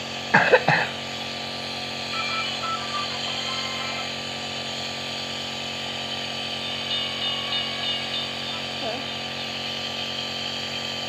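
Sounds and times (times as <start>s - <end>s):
nebulizer compressor humming: 0.0s - 11.0s.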